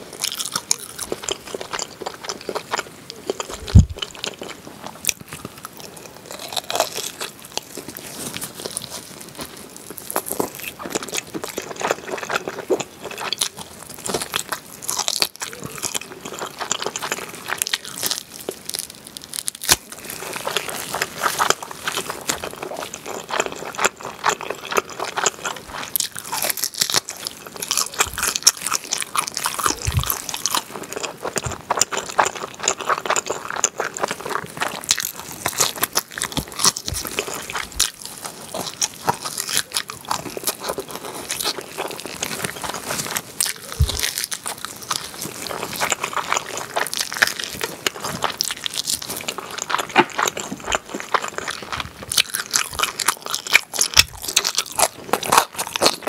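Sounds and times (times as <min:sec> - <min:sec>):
chewing and biting ribs: 0:00.0 - 0:56.0.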